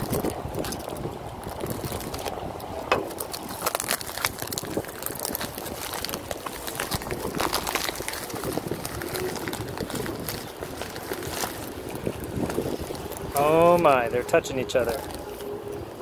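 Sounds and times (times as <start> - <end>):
bubble wrap and plastic bag crinkling: 0.0 - 16.0.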